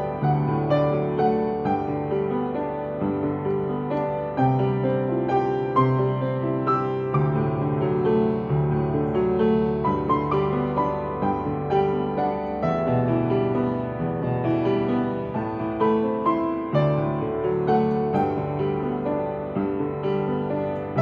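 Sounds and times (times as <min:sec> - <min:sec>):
slow gentle piano tune: 0:00.0 - 0:21.0.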